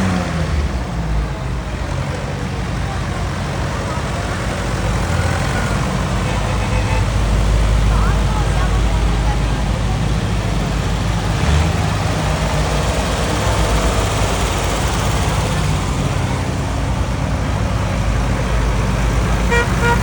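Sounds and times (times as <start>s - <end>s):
tractor engines rumbling: 0.0s - 20.0s.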